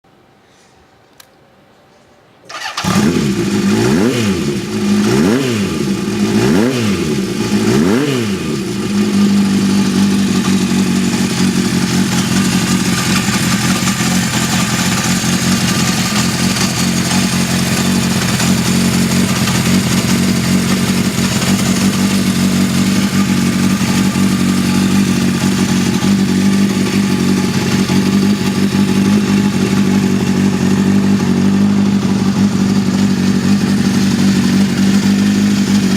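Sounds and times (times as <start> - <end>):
motorcycle engine revving and idling: 2.5 - 35.9.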